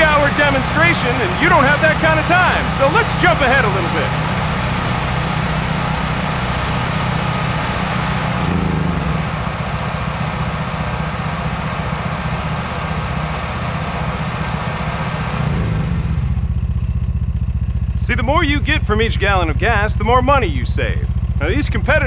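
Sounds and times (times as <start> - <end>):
generators engine drone: 0.0 - 22.0.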